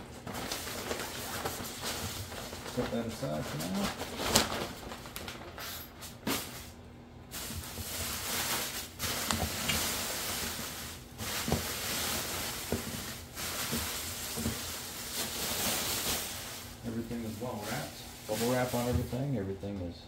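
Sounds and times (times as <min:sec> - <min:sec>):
bubble wrap crinkling: 0:00.0 - 0:19.2.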